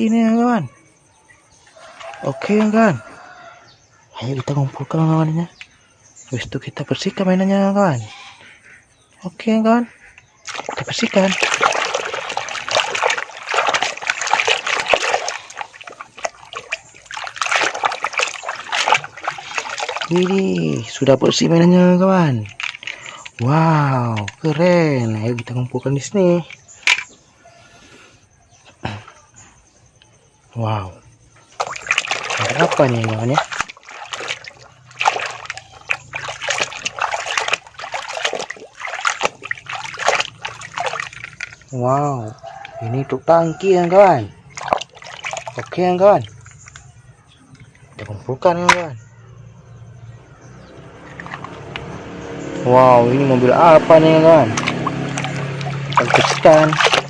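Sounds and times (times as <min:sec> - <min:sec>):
water splashing and sloshing: 0:01.5 - 0:08.0, 0:09.7 - 0:27.4, 0:31.1 - 0:57.0.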